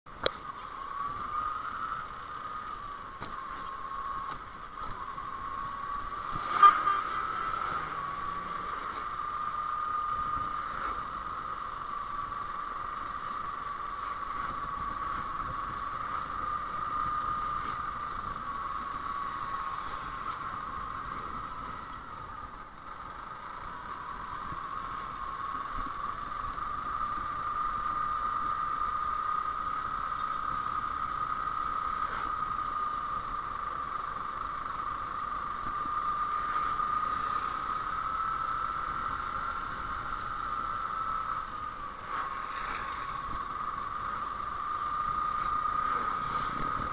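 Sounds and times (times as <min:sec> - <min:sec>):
motorcycle engine humming: 0:00.1 - 0:46.9.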